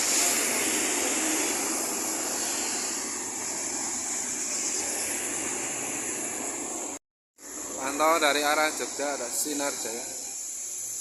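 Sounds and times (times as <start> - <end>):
tyres hissing on wet road: 0.0 - 11.0
vehicle noise: 0.0 - 11.0.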